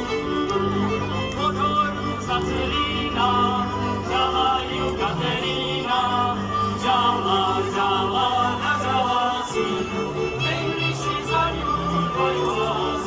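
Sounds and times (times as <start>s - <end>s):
folk string band with fiddles: 0.0s - 13.0s
group singing folk song: 0.0s - 13.0s.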